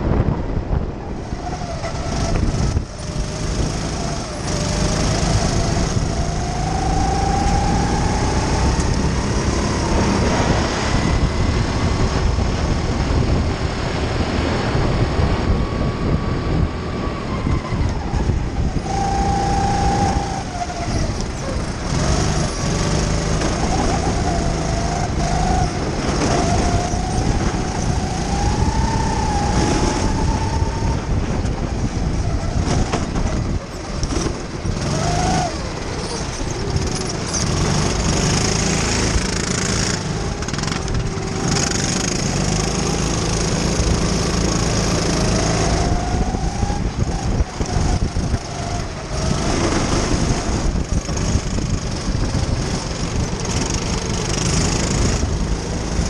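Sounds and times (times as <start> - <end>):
kart engine accelerating: 0.0 - 56.0
steady rushing noise: 0.0 - 56.0.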